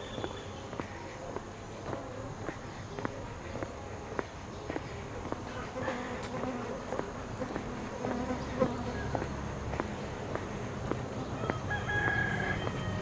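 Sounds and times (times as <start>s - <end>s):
footsteps on pavement: 0.0s - 13.0s
insects droning: 0.0s - 13.0s.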